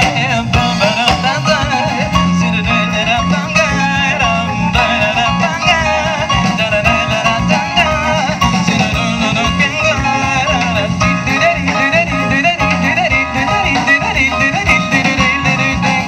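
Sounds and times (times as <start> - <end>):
drums: 0.0 - 16.0
electric guitar: 0.0 - 16.0
keyboard: 0.0 - 16.0.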